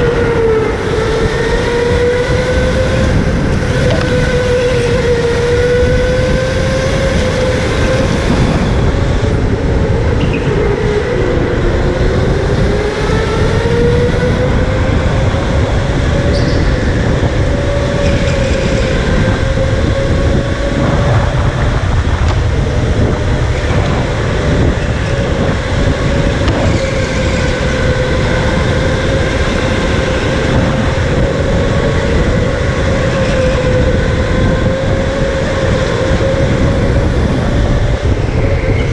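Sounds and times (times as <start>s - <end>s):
electric motor whining: 0.0s - 38.9s
wind and road rumble: 0.0s - 38.9s.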